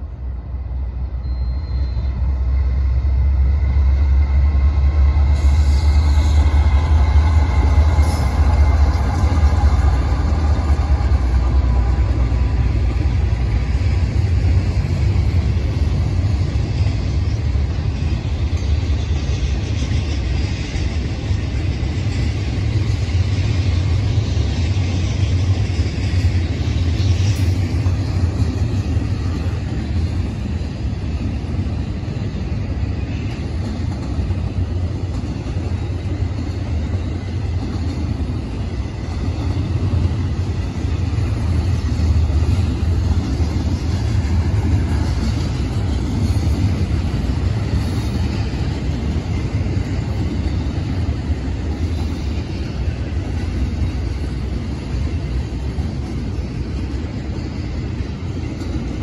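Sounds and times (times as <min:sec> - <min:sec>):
diesel locomotive tones: 0:00.0 - 0:59.0
train wheels on rail: 0:00.0 - 0:59.0.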